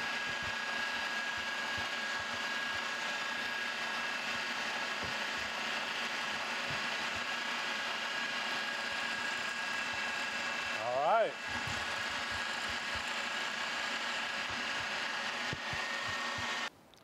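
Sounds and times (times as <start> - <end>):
milling machine whine: 0.0 - 16.7.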